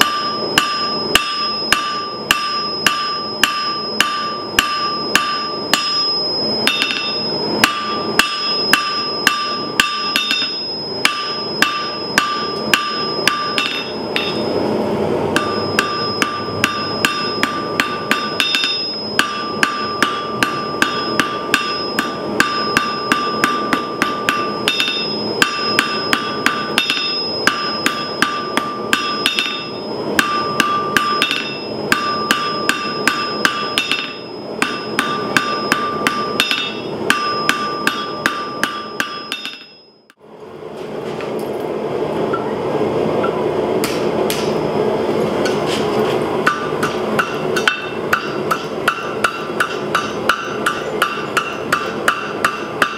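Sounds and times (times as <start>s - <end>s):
hammer striking on anvil: 0.0s - 14.6s, 15.4s - 40.2s, 43.2s - 44.6s, 46.4s - 52.9s.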